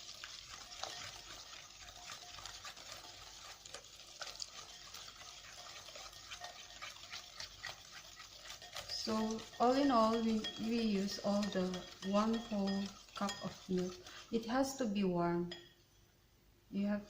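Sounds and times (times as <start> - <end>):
batter stirred in a bowl: 0.0 - 15.7.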